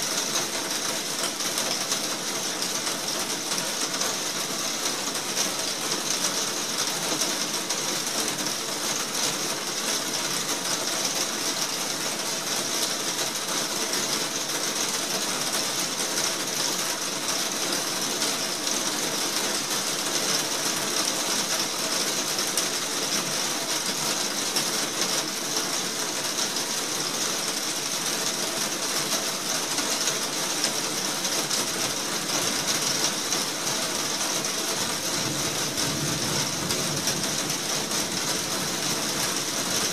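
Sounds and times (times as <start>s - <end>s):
heavy rain on glass roof: 0.0s - 39.9s.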